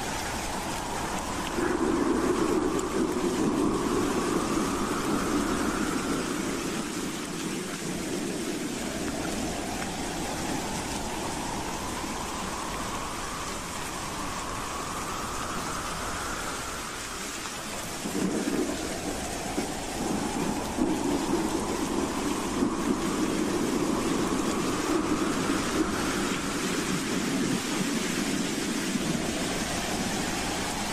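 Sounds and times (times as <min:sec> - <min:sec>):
wind howling: 0:00.0 - 0:30.9.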